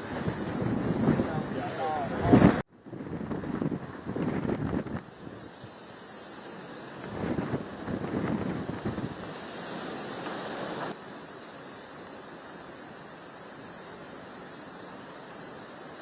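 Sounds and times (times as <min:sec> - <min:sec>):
rushing water: 0:00.0 - 0:16.0
steady hiss: 0:00.0 - 0:16.0
wind gusting against microphone: 0:00.0 - 0:16.0.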